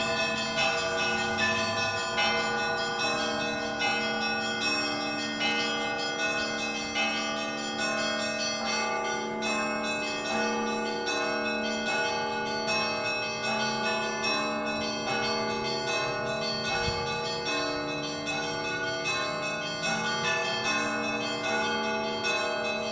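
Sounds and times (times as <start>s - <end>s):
church bells ringing a peal: 0.0s - 22.9s
low bell tone: 0.0s - 22.9s.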